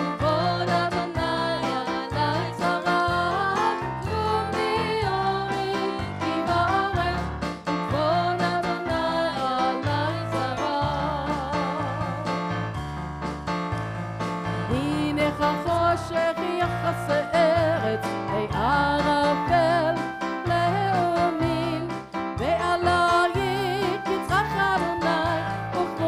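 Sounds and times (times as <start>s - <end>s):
person singing: 0.0s - 12.5s, 14.7s - 26.0s
band playing worship song: 0.0s - 26.0s
bass line: 0.0s - 26.0s.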